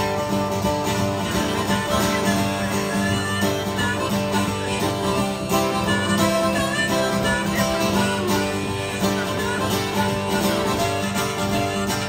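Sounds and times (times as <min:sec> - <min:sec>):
acoustic guitar strumming: 0:00.0 - 0:12.0
harmonica melody with bent notes: 0:00.0 - 0:12.0.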